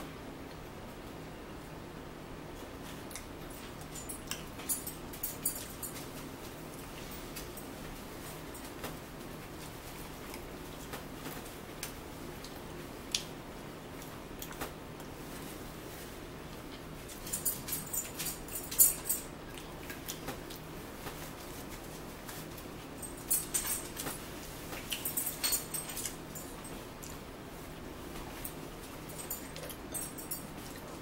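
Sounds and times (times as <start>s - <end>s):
low room hum: 0.0s - 31.0s
clicking and clinking of eating: 2.5s - 13.4s, 14.0s - 15.2s, 16.5s - 27.3s, 28.1s - 31.0s.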